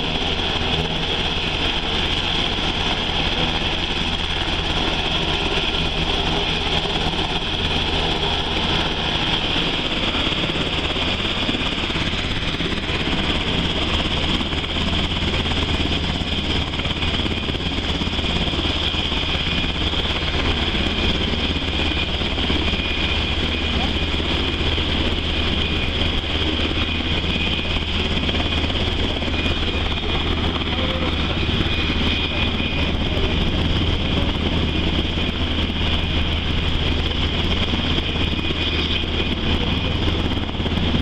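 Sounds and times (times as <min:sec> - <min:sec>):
helicopter rotor rumble: 0:00.0 - 0:41.0
helicopter turbine whine: 0:00.0 - 0:41.0.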